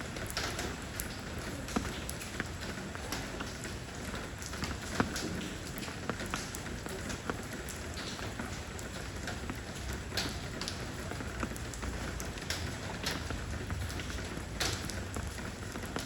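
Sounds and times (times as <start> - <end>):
rain falling on stone: 0.0 - 16.0.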